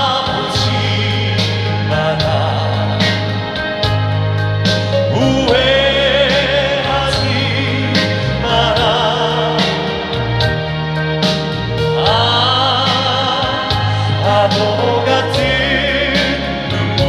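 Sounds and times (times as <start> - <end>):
live band playing slow song: 0.0 - 17.0.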